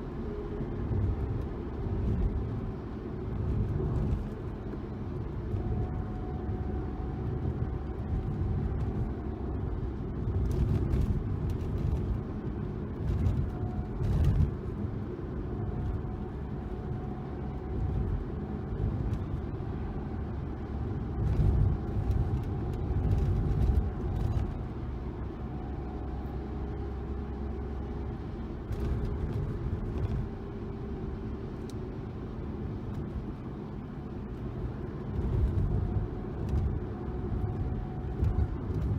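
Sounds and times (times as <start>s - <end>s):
car engine exhaust rumble: 0.0s - 38.9s.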